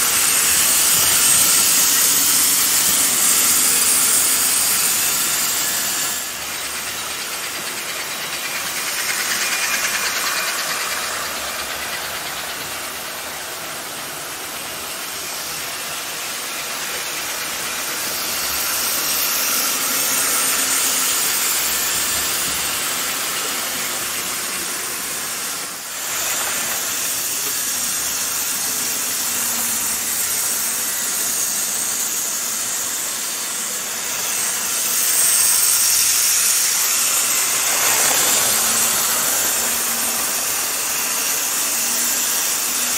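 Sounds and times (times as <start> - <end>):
model train wheels on track: 0.0 - 42.9
small electric motors whirring: 0.0 - 42.9.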